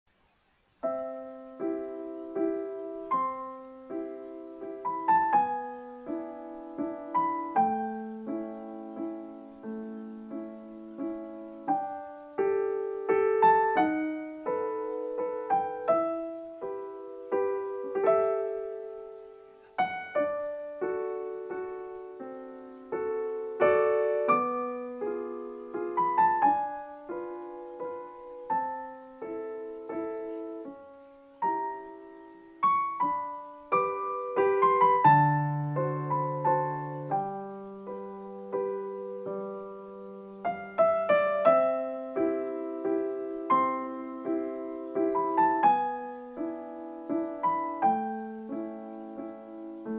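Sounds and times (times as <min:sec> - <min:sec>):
gentle piano melody: 0:00.6 - 0:49.9.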